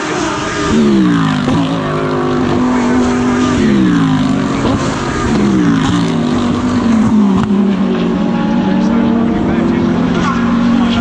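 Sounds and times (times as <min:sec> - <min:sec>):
race car engine: 0:00.0 - 0:11.0.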